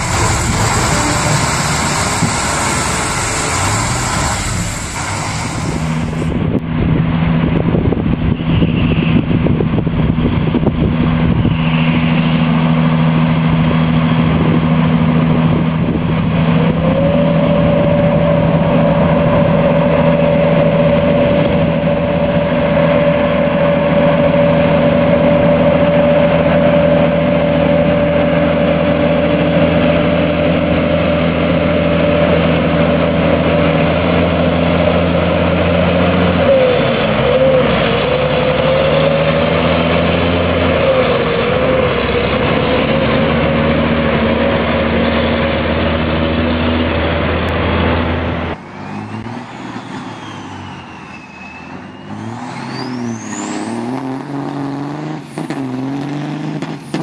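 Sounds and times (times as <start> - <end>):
high whine: 0.0 - 39.5, 44.2 - 57.0
truck engine droning: 0.0 - 57.0.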